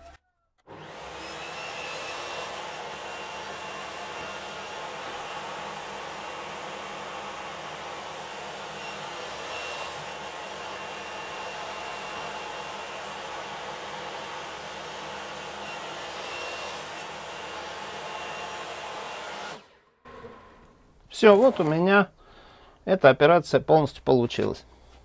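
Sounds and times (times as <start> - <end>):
saw cutting plywood: 0.0 - 22.1
table saw running: 0.7 - 22.0.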